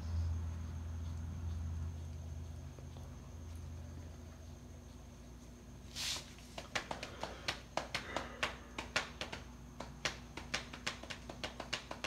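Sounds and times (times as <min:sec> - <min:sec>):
table fan humming: 0:00.0 - 0:12.0
rapid fan clicking: 0:00.2 - 0:12.0.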